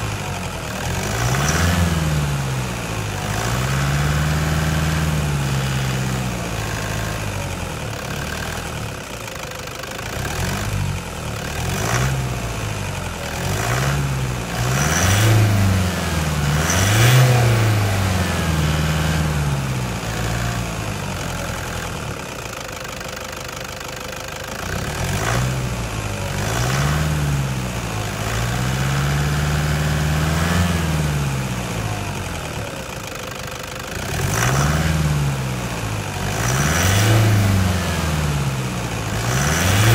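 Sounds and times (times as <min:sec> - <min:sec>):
diesel engine revving: 0:00.0 - 0:09.1, 0:10.0 - 0:22.5, 0:24.5 - 0:39.9.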